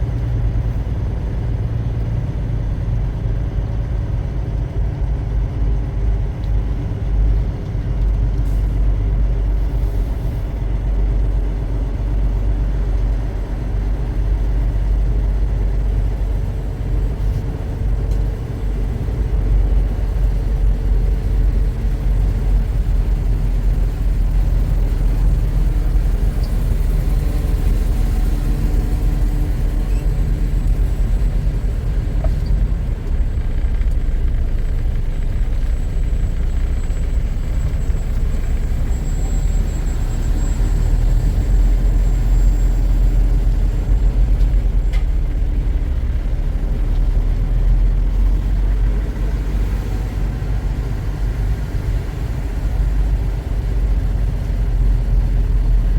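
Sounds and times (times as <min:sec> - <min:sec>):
truck engine and road rumble: 0:00.0 - 0:55.9.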